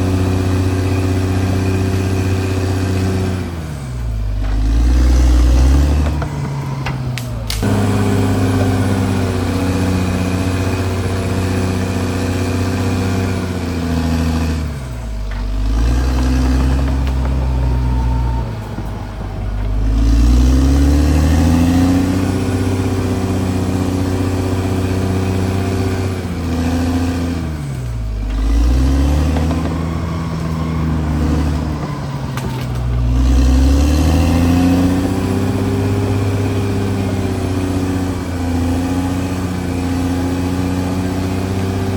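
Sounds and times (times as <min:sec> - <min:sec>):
bulldozer diesel engine running hard: 0:00.0 - 0:41.9.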